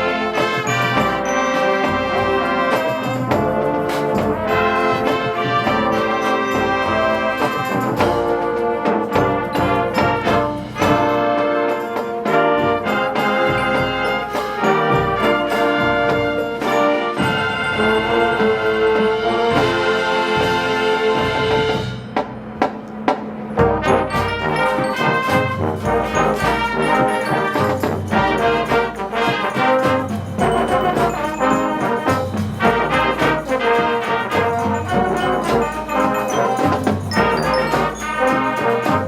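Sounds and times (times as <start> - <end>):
drum line beat: 0.0 - 39.0
marching band brass: 0.0 - 39.0.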